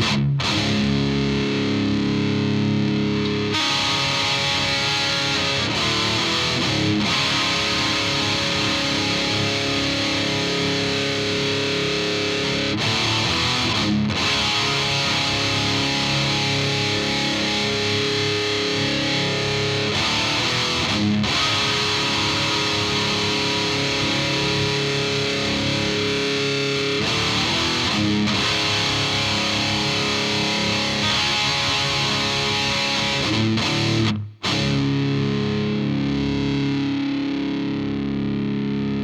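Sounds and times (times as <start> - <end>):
distorted electric guitar chords: 0.0 - 39.0.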